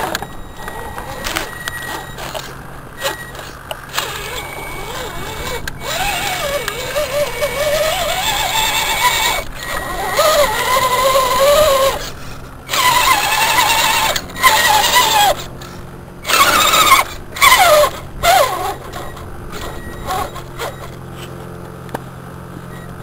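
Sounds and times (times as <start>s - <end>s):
electric motor and gearbox whining: 0.0s - 23.0s.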